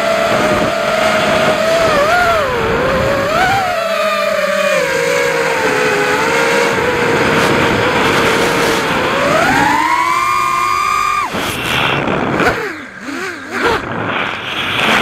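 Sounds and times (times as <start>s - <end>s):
wind noise: 0.0s - 3.8s, 5.6s - 15.0s
quadcopter motors whining: 0.0s - 15.0s.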